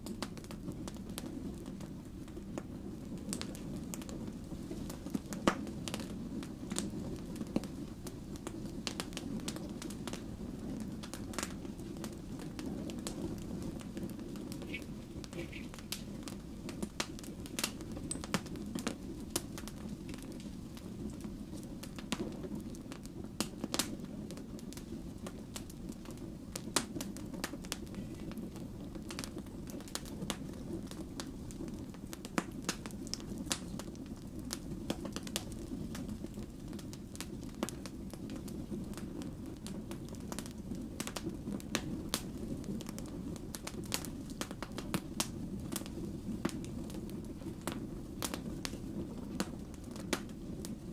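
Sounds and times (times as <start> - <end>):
fire crackling and popping: 0.0 - 50.9
rumble of flames: 0.0 - 50.9.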